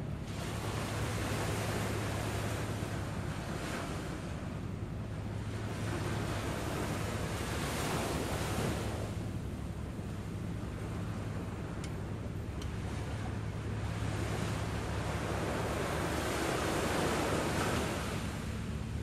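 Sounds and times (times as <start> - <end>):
small waves breaking on beach: 0.0 - 4.5, 5.1 - 11.7, 12.7 - 19.0
steady low hum: 0.0 - 19.0.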